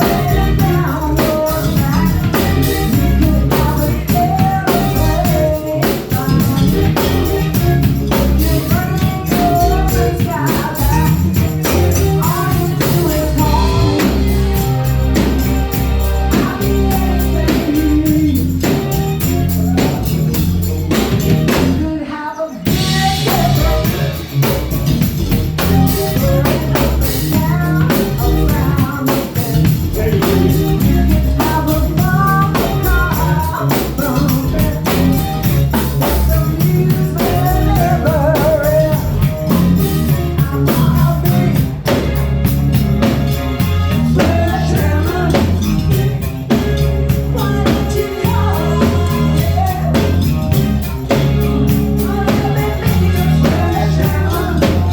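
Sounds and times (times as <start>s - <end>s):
pop song with singer and drums: 0.0s - 54.9s.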